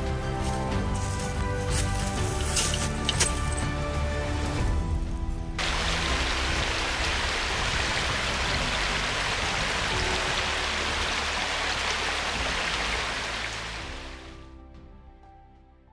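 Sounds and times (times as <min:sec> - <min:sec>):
rushing water: 0:00.7 - 0:14.5.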